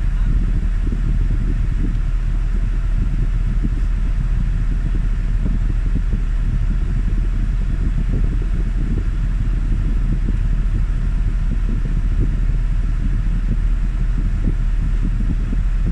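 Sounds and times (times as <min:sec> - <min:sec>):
air conditioning running: 0:00.0 - 0:15.9
van engine idling: 0:00.0 - 0:15.9.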